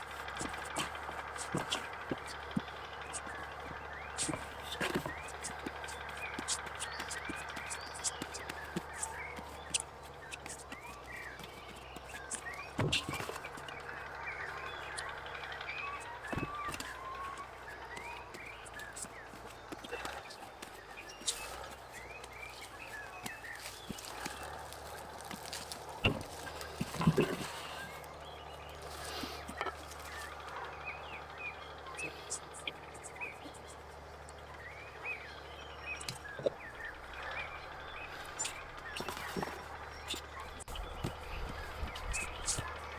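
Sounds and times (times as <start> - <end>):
low background hum: 0.0 - 42.9
small birds chirping: 0.0 - 42.9.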